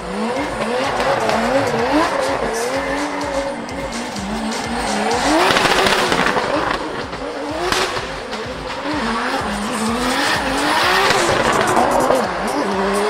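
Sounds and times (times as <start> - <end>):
car engine revving: 0.0 - 13.0
tyres screeching: 0.0 - 13.0.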